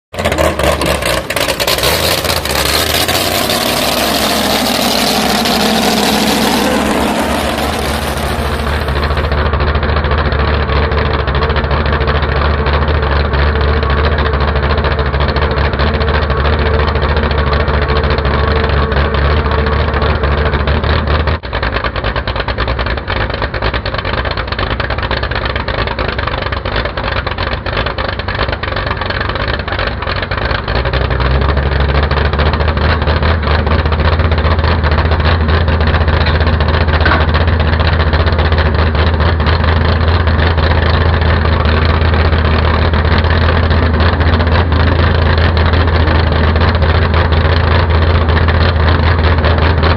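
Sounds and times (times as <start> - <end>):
tractor engine running: 0.1 - 49.9.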